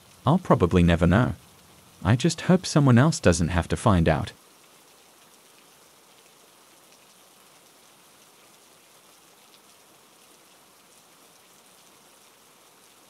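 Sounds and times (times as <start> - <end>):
faint steady rain: 0.0 - 13.0.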